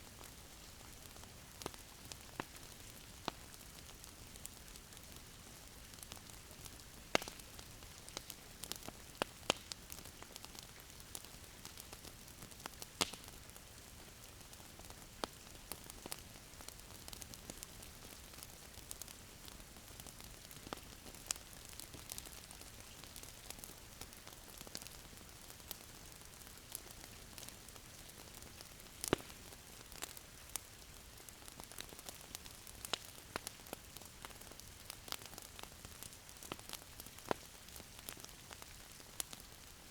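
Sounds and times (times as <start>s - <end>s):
wood fire crackling: 0.0s - 39.9s
fire pops and snaps: 5.8s - 19.1s, 19.7s - 39.6s.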